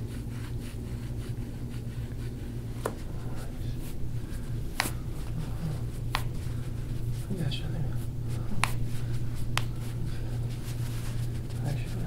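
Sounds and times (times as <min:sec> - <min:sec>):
hands rubbing on skin and fabric: 0:00.0 - 0:12.0
steady low hum: 0:00.0 - 0:12.0.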